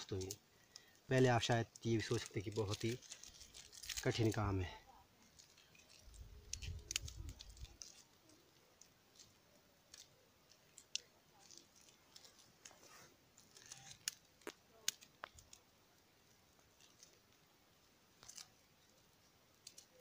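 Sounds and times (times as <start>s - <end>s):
plastic strip crinkling: 0.0s - 17.5s, 18.1s - 20.0s.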